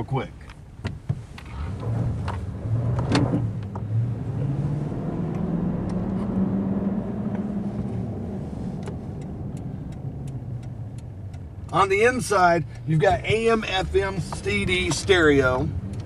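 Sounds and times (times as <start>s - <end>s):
truck engine accelerating: 1.5s - 16.0s.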